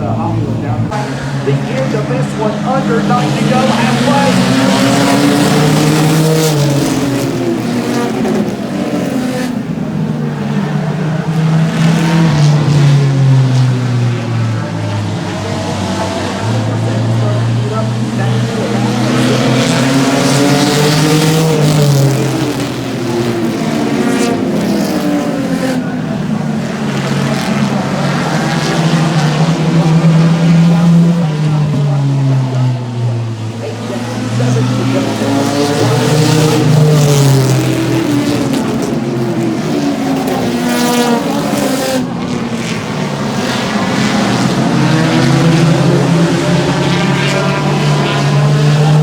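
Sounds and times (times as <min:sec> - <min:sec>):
race car engines: 0:00.0 - 0:49.0.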